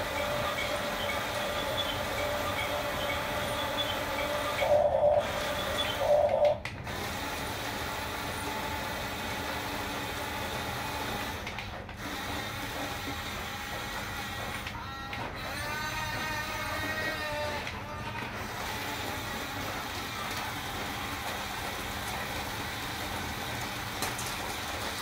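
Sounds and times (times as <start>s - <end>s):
toy bulldozer motors whirring: 0.0s - 25.0s.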